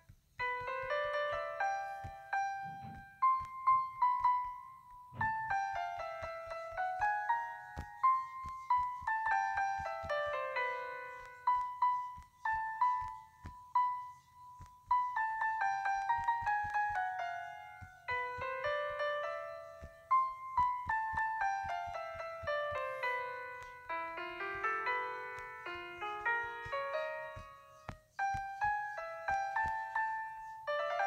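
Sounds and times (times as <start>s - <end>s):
piano notes: 0.0s - 31.0s.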